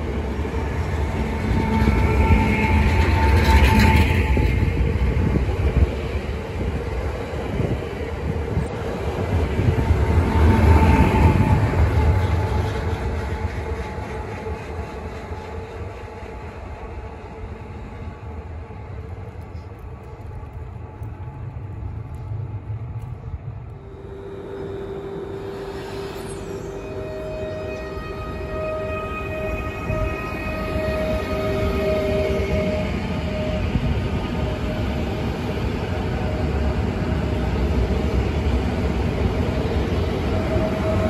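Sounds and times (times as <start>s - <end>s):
train high whine: 0.0s - 41.0s
train low rumble: 0.0s - 41.0s.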